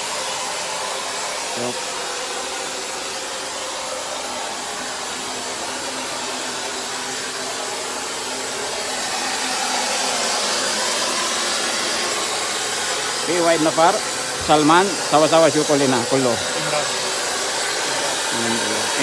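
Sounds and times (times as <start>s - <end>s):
machinery whirring hiss: 0.0s - 19.0s.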